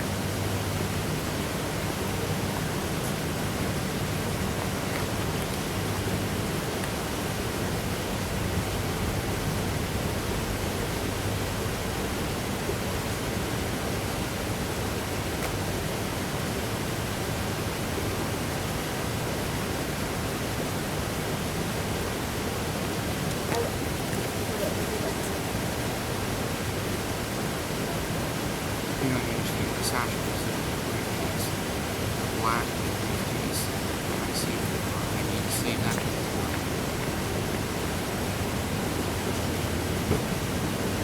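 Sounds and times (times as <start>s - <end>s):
faint low hum: 0.0s - 41.0s
steady hiss-like background noise: 0.0s - 41.0s.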